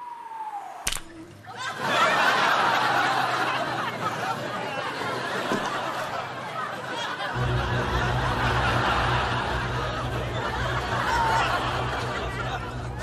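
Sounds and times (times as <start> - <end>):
studio audience laughing: 1.4 - 13.0.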